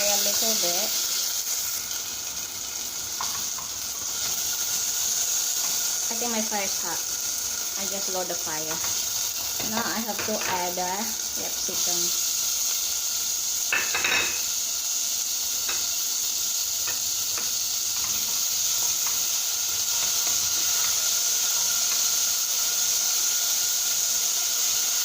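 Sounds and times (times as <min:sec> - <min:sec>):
food sizzling in oil: 0:00.0 - 0:25.0.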